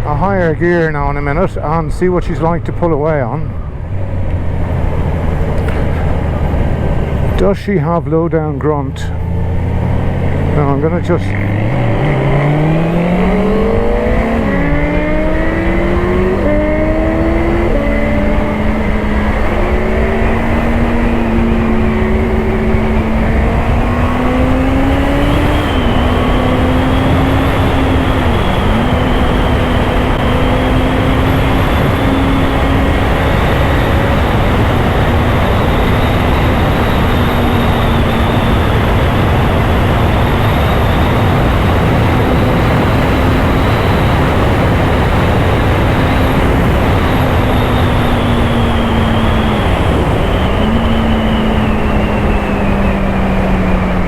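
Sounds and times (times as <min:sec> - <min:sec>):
motorcycle engine accelerating: 0:03.0 - 0:54.0.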